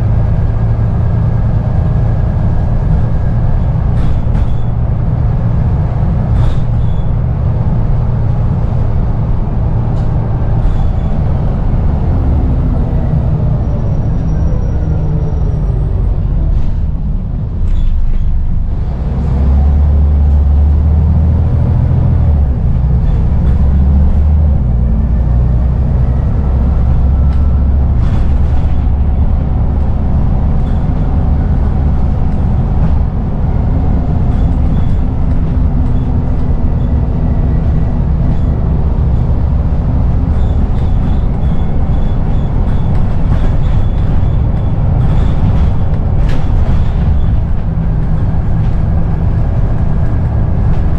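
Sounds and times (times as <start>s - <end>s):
bus body rattling and knocking: 0.0s - 50.9s
bus diesel engine droning: 0.0s - 50.9s.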